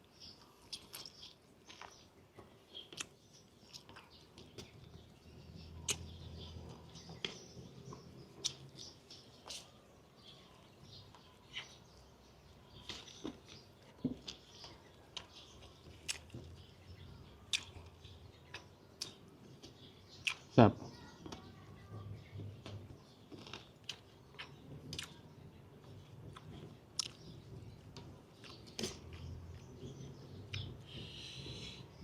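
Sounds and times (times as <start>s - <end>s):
person chewing food: 0.3s - 5.2s, 5.8s - 20.5s, 22.6s - 32.0s.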